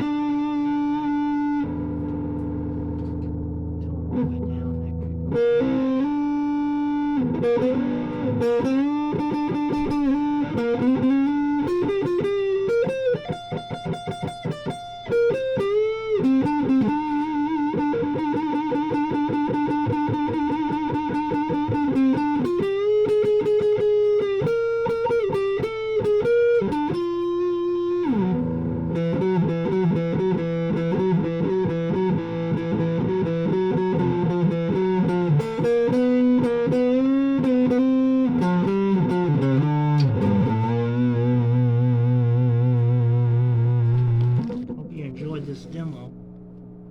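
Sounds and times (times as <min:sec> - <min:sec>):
electric guitar lead lines: 0:00.0 - 0:46.9.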